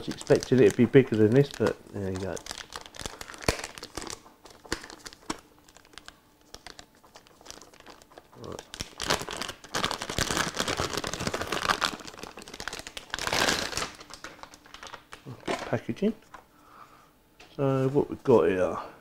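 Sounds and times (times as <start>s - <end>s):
packaging crinkling: 0.0s - 16.4s.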